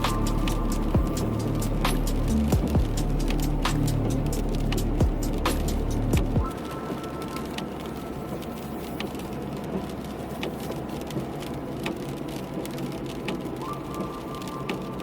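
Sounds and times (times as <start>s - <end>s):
car engine hum: 0.0s - 15.0s
rain falling on a car: 0.0s - 15.0s.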